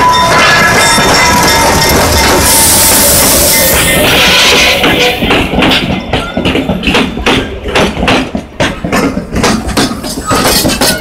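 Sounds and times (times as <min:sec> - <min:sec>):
train low rumble: 0:00.0 - 0:11.0
train wheels knocking over rail joints: 0:00.0 - 0:11.0.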